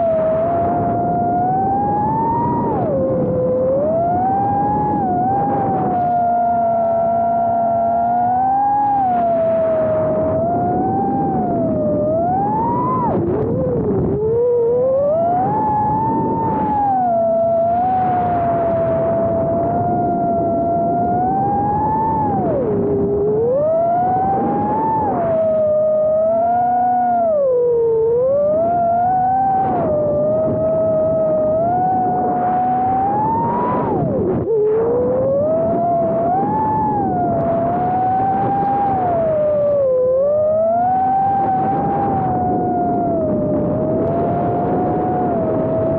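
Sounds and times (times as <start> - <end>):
quadcopter propellers whining: 0.0 - 45.9.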